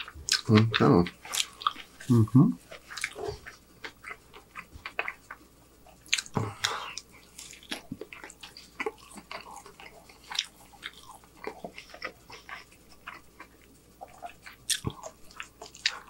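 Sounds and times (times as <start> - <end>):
chewing with wet mouth smacks: 0.0 - 2.1, 2.7 - 16.0.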